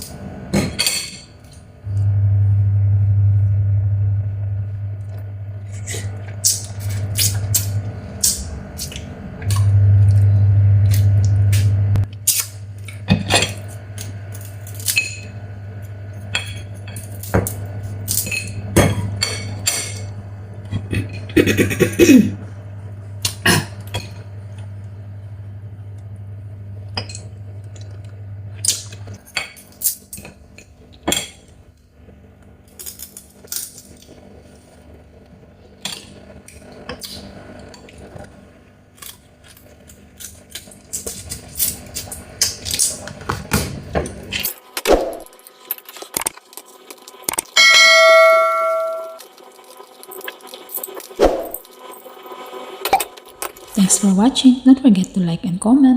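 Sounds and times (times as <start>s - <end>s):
steady low hum: 0.0s - 45.3s.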